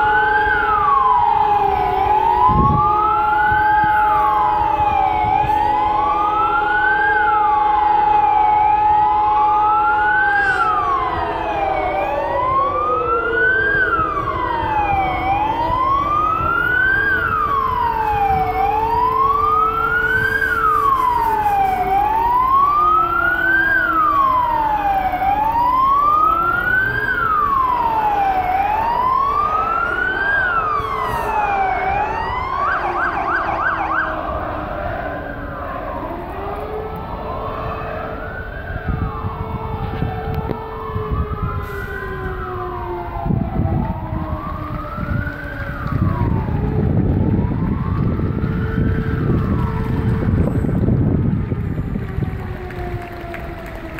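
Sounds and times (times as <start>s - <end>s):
rapid siren warble: 0.0s - 53.9s
steady siren tone sliding down: 0.0s - 53.9s
wailing sirens: 0.0s - 53.9s.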